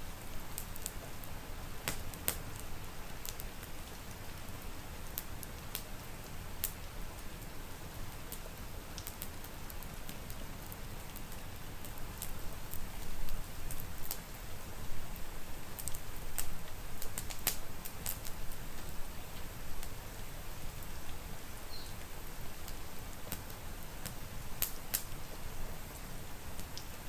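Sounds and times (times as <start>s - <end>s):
rain hiss: 0.0s - 27.0s
wood fire crackling: 0.0s - 27.0s.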